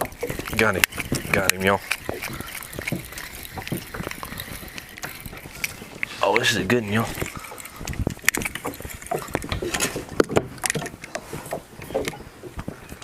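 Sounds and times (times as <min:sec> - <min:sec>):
fish splashing: 0:00.0 - 0:13.0
knocks and clicks on kayak: 0:00.0 - 0:13.0.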